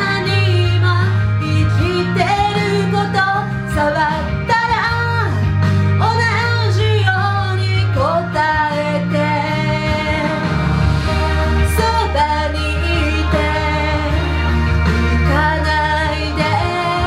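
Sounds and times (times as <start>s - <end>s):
instrumental accompaniment: 0.0s - 17.0s
woman singing pop song: 0.0s - 17.0s.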